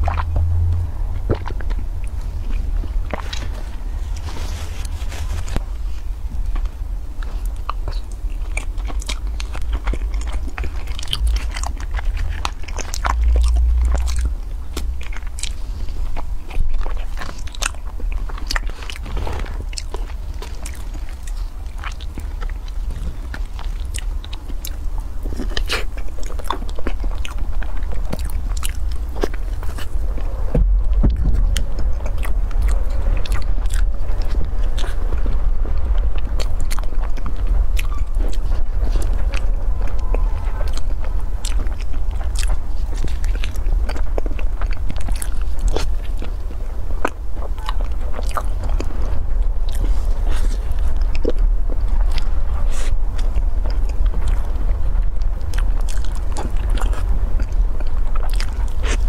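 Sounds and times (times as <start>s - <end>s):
person chewing cake: 0.0s - 59.0s
steady low hum: 0.0s - 59.0s.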